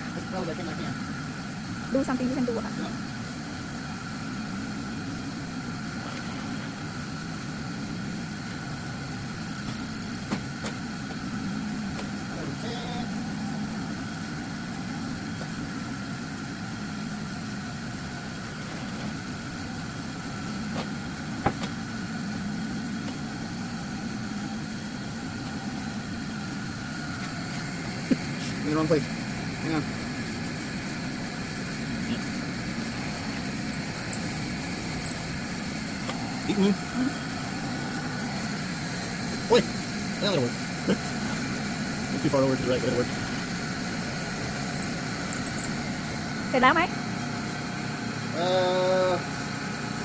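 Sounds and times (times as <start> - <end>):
steady mechanical hum: 0.0 - 50.0.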